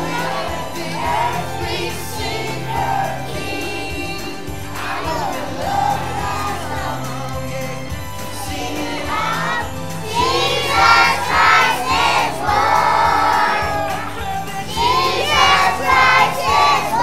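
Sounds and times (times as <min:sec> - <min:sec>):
children's choir singing: 0:00.0 - 0:17.0
music accompaniment: 0:00.0 - 0:17.0.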